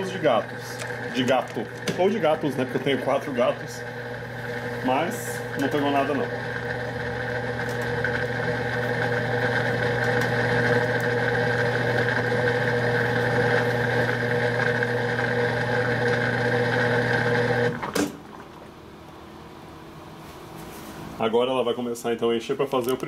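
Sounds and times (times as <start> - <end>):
washing machine drain pump humming: 0.0 - 20.2.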